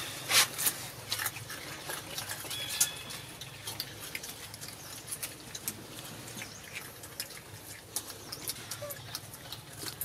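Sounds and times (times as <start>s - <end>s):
monkeys chewing and smacking: 0.0s - 10.0s.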